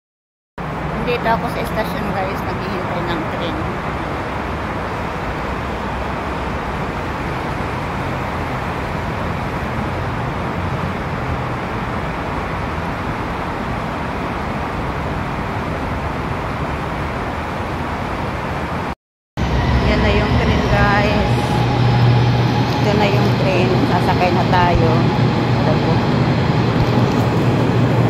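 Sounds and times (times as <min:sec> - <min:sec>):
steady rushing noise: 0:00.6 - 0:28.0.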